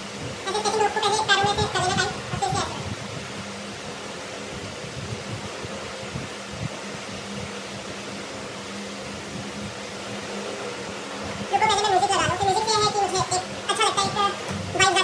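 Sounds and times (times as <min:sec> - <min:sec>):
electric fan running: 0:00.0 - 0:15.0
low steady hum: 0:00.0 - 0:15.0.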